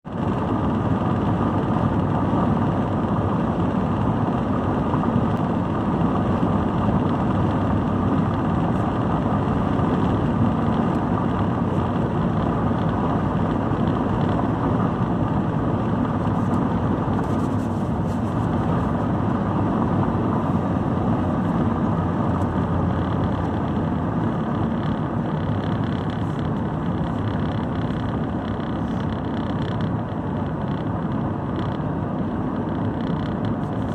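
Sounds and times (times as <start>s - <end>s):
car engine driving: 0.0s - 33.9s
road noise: 0.0s - 33.9s.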